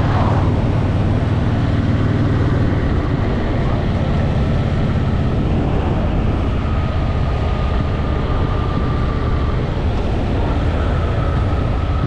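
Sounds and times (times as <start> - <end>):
motorcycle engine rumble: 0.0 - 12.0
wind and road noise: 0.0 - 12.0.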